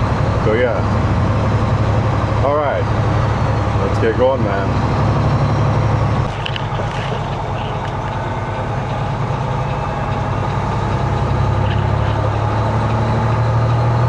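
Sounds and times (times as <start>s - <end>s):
truck diesel engine hum: 0.0s - 14.0s.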